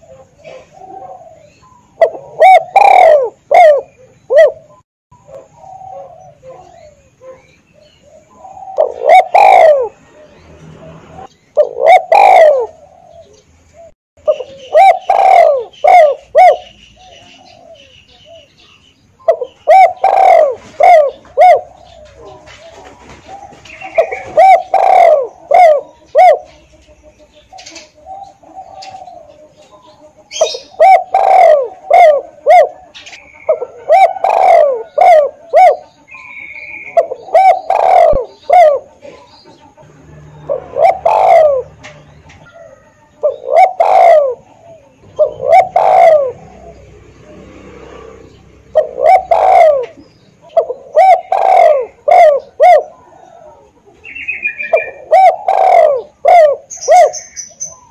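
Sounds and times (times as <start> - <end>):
dove cooing: 0.0 - 57.9.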